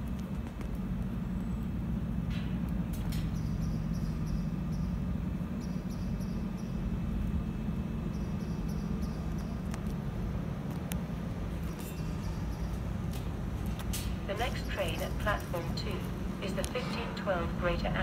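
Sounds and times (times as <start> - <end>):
distant train rumbling: 0.0 - 18.0.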